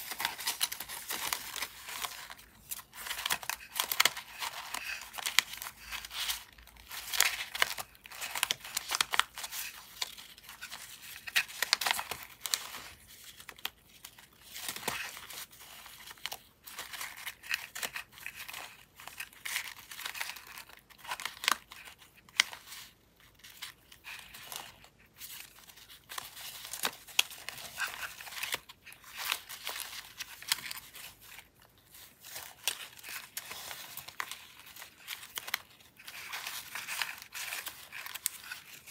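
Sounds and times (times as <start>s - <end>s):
paper scraps rustling and crinkling: 0.0s - 38.9s.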